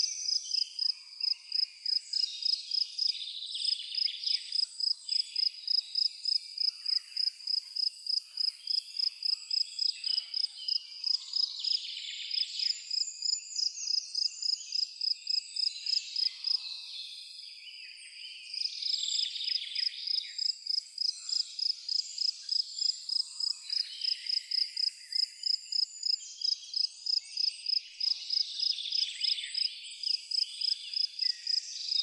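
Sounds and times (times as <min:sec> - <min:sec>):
songbirds singing: 0:00.0 - 0:32.0
cricket chirping: 0:00.2 - 0:16.6, 0:18.5 - 0:32.0.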